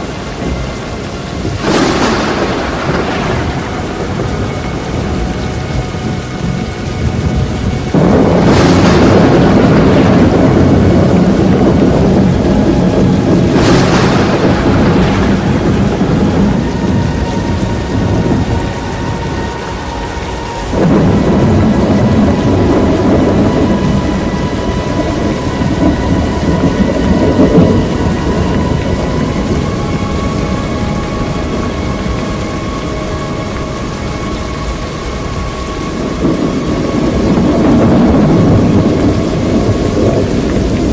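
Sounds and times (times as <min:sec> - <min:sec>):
rain hiss: 0:00.0 - 0:40.9
thunder rumbling: 0:00.0 - 0:40.9.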